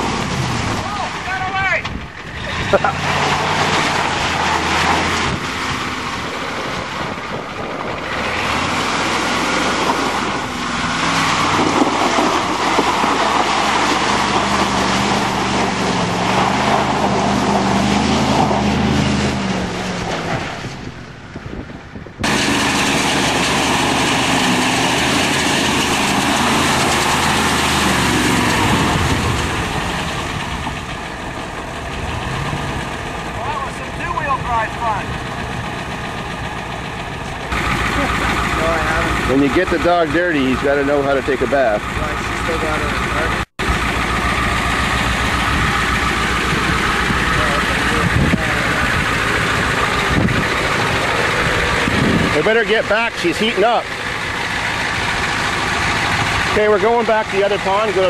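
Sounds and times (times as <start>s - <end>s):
mud and water splashing: 0.0s - 20.8s, 22.2s - 58.0s
truck engine revving: 0.0s - 58.0s.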